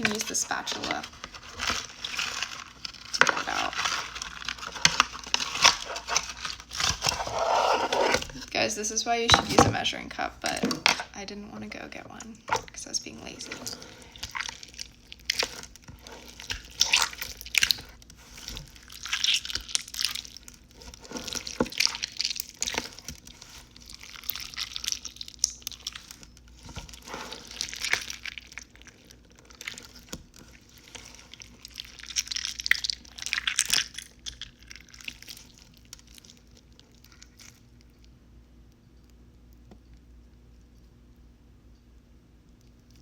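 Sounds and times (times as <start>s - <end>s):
slime squelching and scraping: 0.0s - 37.7s.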